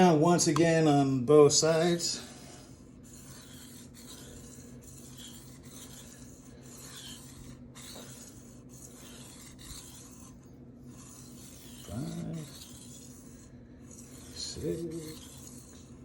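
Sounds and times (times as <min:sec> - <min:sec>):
faint steady hum: 0:00.0 - 0:16.0
knife scraping on whetstone: 0:02.7 - 0:16.0.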